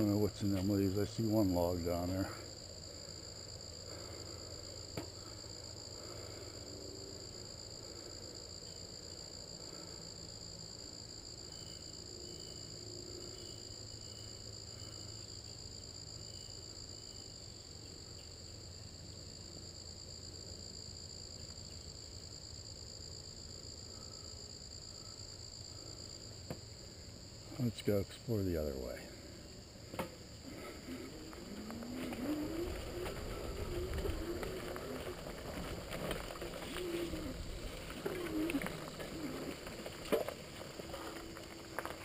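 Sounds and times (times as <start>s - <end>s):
crickets trilling: 0.0s - 42.0s.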